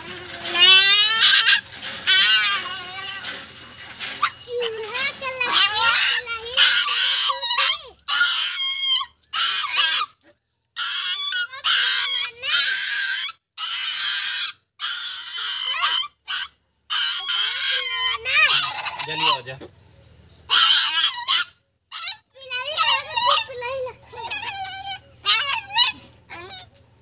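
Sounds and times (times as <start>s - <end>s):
puppy squealing and yelping: 0.3s - 19.6s, 20.5s - 26.8s.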